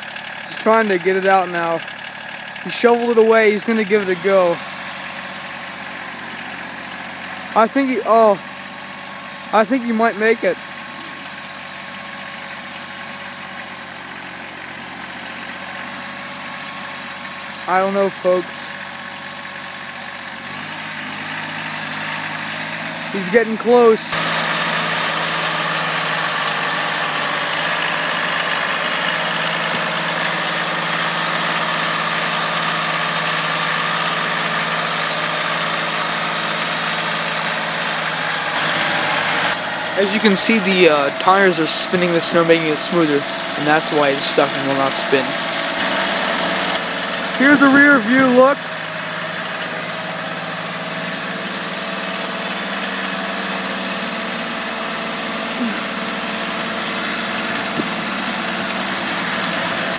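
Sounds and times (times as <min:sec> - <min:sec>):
tires spinning in snow: 0:00.0 - 0:59.9
tractor diesel engine running: 0:00.0 - 0:59.9.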